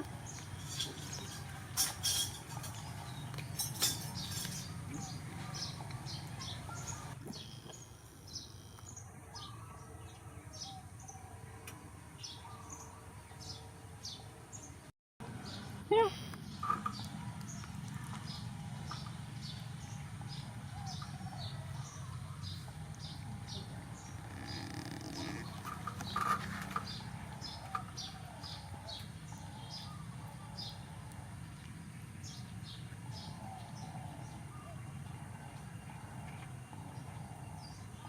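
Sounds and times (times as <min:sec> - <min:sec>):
small birds chirping: 0:00.0 - 0:11.2, 0:15.4 - 0:38.0.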